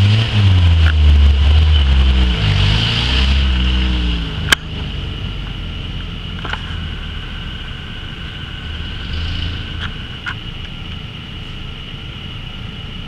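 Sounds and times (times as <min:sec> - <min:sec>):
off-road vehicle engine rumbling: 0:00.0 - 0:13.0
high-pitched drone: 0:01.0 - 0:11.7.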